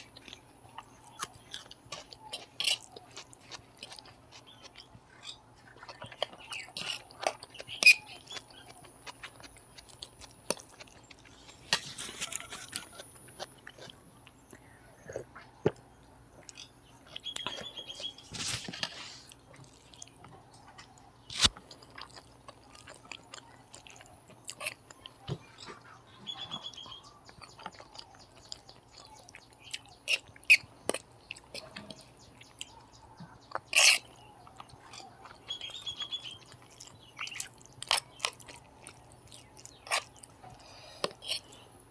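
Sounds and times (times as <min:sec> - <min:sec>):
chewing: 0:00.0 - 0:41.9.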